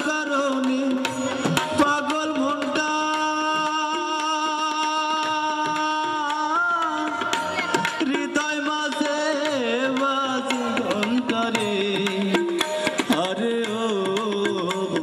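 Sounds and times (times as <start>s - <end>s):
drum strokes: 0.0s - 15.0s.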